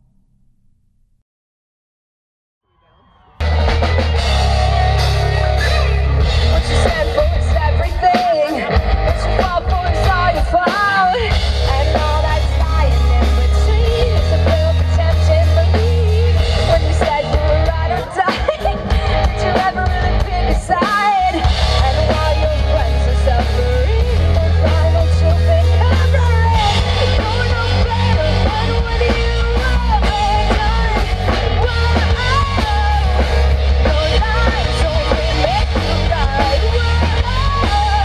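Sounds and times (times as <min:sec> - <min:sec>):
bass guitar: 0:03.4 - 0:38.0
drum kit: 0:03.4 - 0:38.0
electric guitar: 0:03.4 - 0:38.0.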